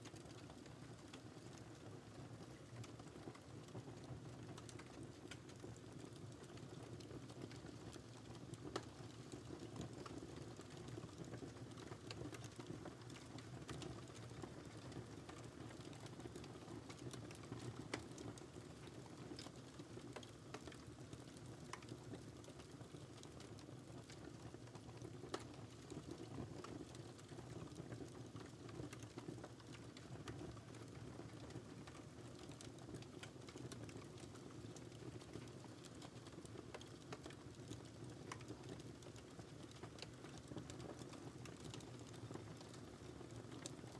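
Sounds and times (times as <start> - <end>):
fire snaps and pops: 0.0 - 43.9
wood fire crackling: 0.0 - 43.9.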